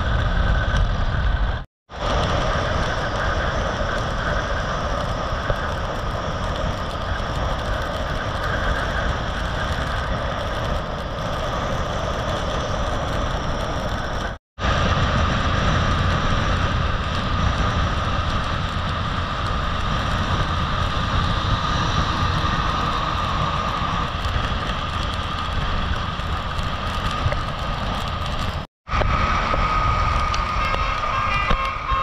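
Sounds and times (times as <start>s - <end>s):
motorcycle engine and tyre noise: 0.0s - 32.0s
wind rush on microphone: 0.0s - 32.0s.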